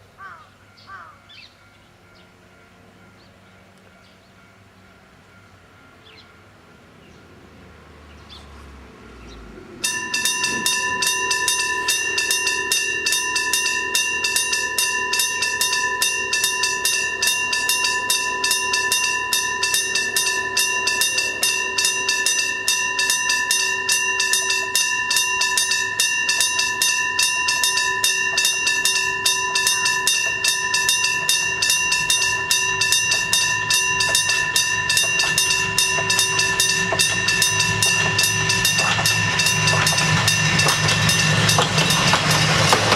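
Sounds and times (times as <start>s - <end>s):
diesel railcar rumble: 0.0s - 42.9s
level crossing warning bell: 0.0s - 42.9s.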